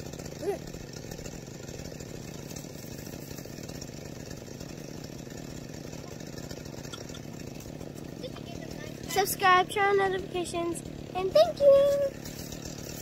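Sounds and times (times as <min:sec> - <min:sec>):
chainsaw idling: 0:00.0 - 0:13.0.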